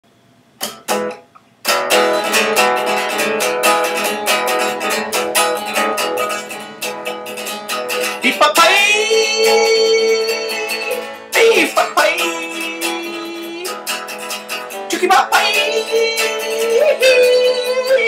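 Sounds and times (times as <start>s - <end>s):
electric guitar strumming: 0.6s - 18.0s.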